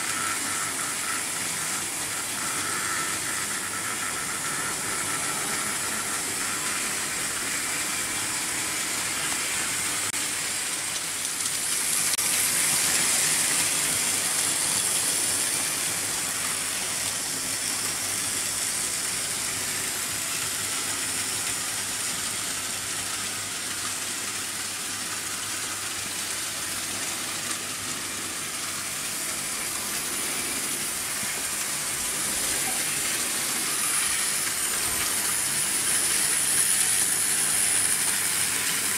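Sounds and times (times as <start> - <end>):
model trains rattling on metal track: 0.0 - 38.9.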